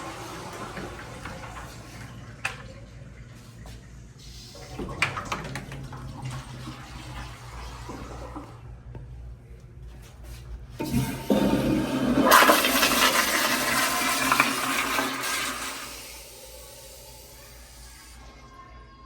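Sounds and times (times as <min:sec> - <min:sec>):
toilet flushing: 0:00.0 - 0:08.9, 0:10.8 - 0:19.0.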